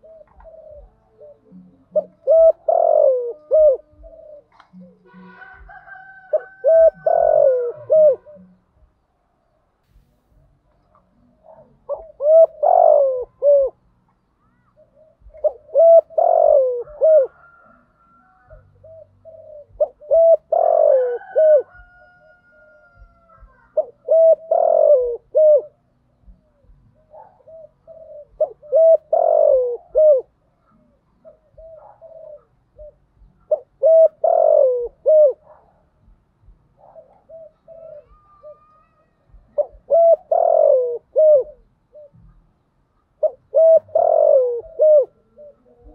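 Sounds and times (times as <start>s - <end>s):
dove cooing: 0.0s - 9.0s, 10.8s - 45.9s.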